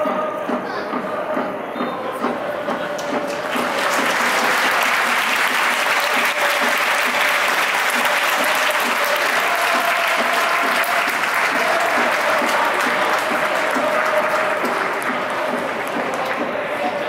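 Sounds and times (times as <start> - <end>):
stadium crowd applauding: 2.6 - 17.0.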